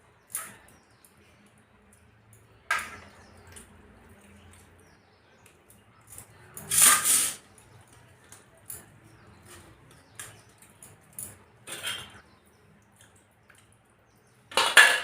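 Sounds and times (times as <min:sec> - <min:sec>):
noisy bursts of eating: 0:00.0 - 0:14.8.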